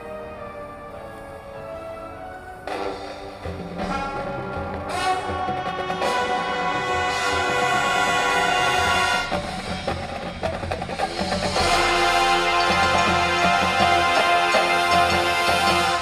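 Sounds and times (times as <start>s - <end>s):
marching band playing: 0.0s - 16.0s
drums and percussion: 2.6s - 16.0s.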